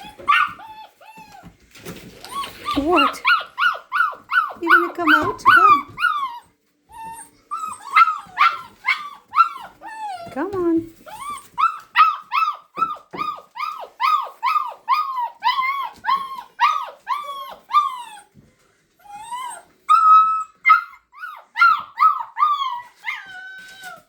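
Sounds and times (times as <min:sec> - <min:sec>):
dog whining: 0:00.0 - 0:18.4, 0:19.0 - 0:24.0.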